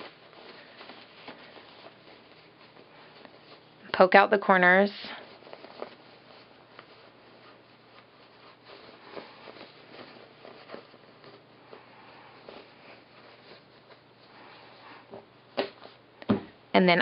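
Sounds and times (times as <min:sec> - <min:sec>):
washcloth rustling: 0:00.0 - 0:16.2.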